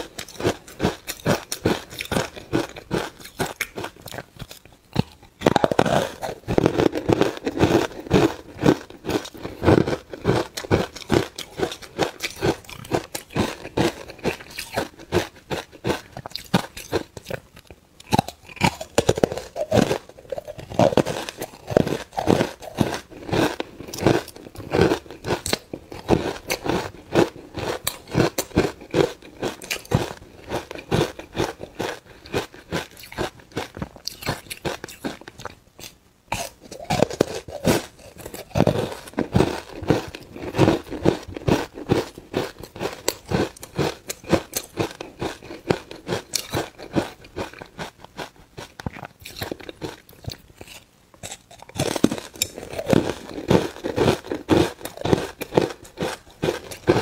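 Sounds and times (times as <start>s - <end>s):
ice cubes crunching: 5.4s - 17.4s, 18.0s - 35.5s, 36.7s - 57.0s.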